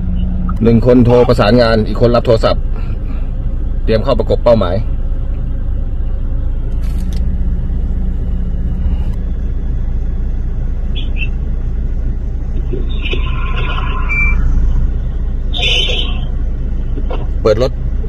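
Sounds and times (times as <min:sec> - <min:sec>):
low rumble of road vehicles: 0:00.0 - 0:18.0.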